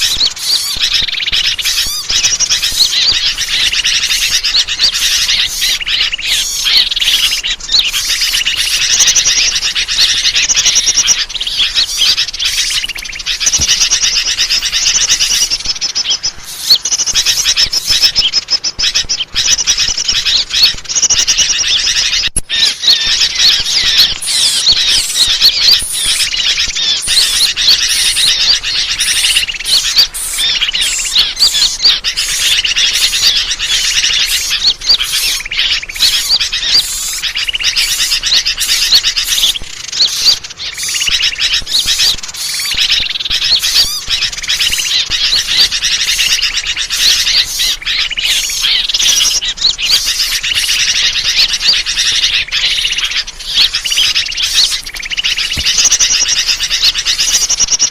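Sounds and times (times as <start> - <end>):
many small birds chirping: 0.0 - 57.9.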